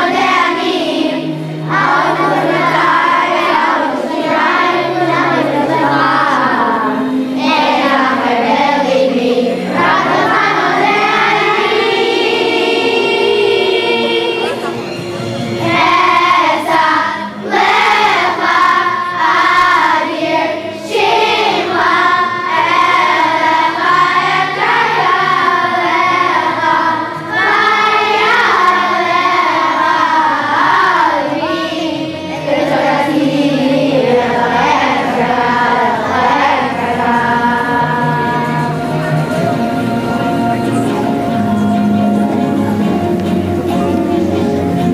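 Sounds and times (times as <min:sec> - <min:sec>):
children's choir singing: 0:00.0 - 0:44.9
musical accompaniment: 0:00.0 - 0:44.9.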